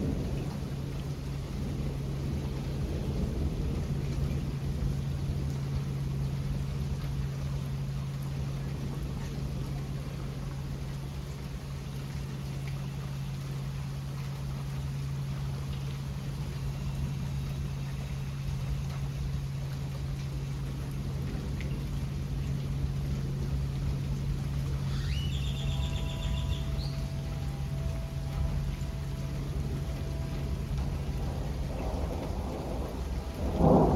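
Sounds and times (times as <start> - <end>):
rainfall hissing: 0.0 - 33.9
low hum: 5.4 - 33.9.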